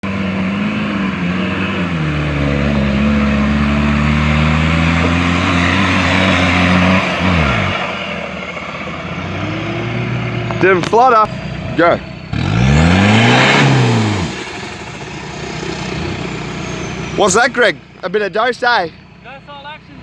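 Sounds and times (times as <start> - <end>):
engine revving under load: 0.0 - 20.0.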